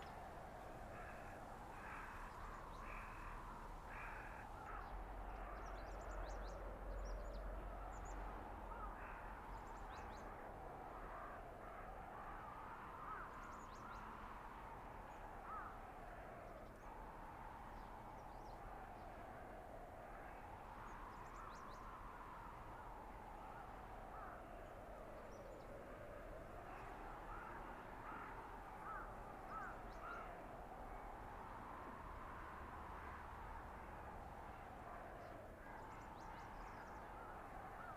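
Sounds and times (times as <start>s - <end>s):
faint bird calls: 0.0s - 14.2s, 15.0s - 17.0s, 20.0s - 31.2s, 32.9s - 37.9s
blizzard wind howling: 0.0s - 37.9s.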